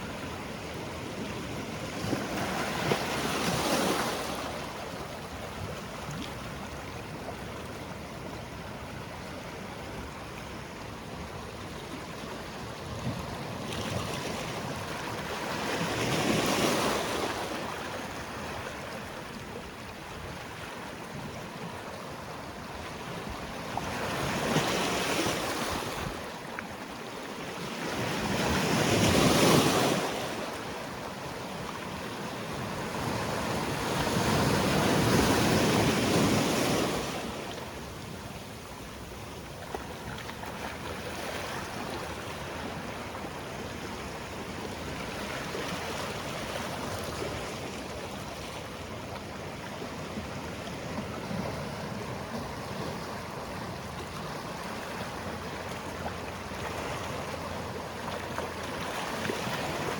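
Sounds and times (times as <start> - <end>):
sea waves breaking on shore: 0.0 - 8.1, 11.6 - 59.9.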